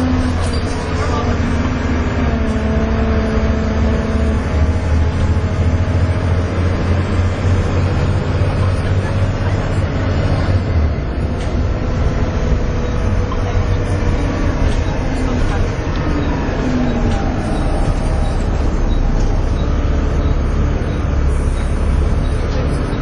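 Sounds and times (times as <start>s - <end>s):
bus diesel engine droning: 0.0s - 23.0s
road and body noise: 0.0s - 23.0s.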